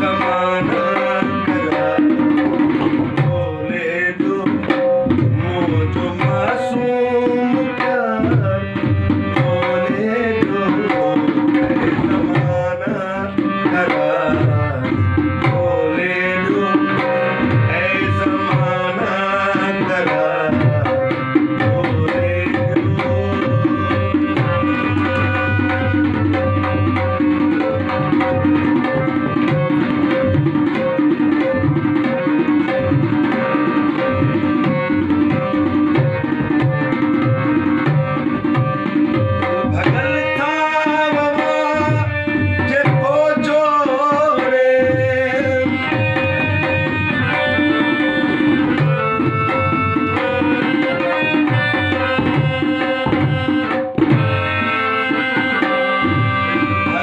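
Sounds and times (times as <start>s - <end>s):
dholak drum rhythm: 0.0s - 57.0s
harmonium melody: 0.0s - 57.0s
man singing: 0.0s - 57.0s.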